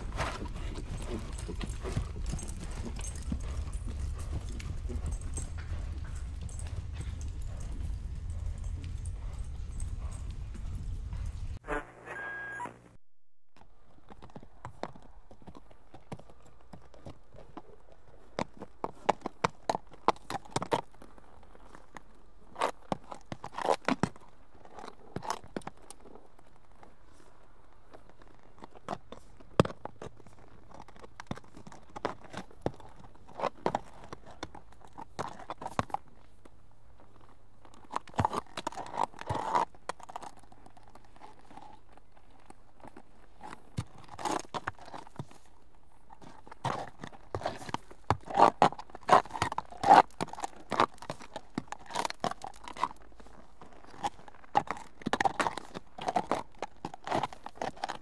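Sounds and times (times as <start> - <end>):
horse hooves striking ground: 0.0 - 12.5, 13.6 - 58.0.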